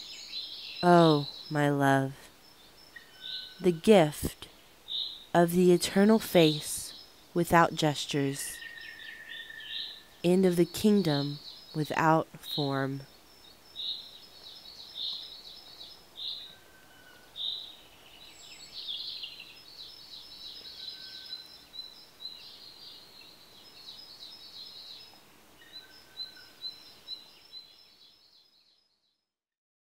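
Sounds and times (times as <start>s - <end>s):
birds chirping: 0.0s - 28.7s
faint background hiss: 0.0s - 28.7s.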